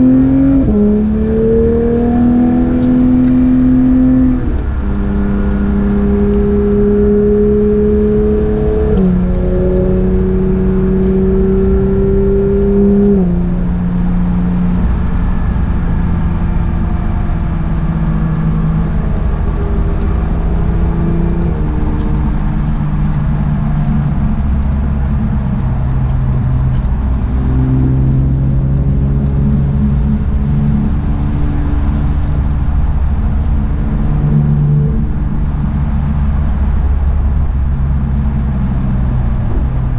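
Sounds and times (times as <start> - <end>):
sports car engine at part throttle: 0.0 - 39.9.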